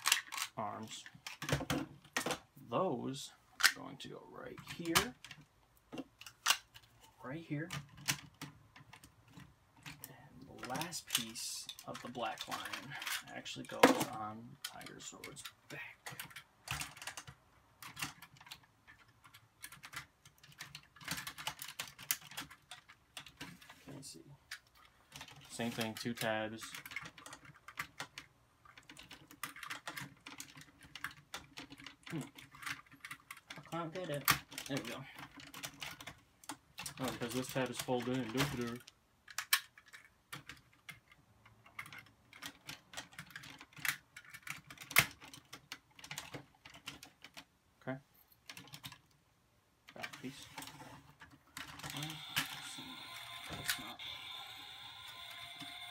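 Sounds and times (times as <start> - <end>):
plastic toy parts clicking: 0.0 - 2.4, 4.5 - 7.0, 7.6 - 23.7, 24.4 - 47.5, 48.4 - 49.2, 49.8 - 55.9.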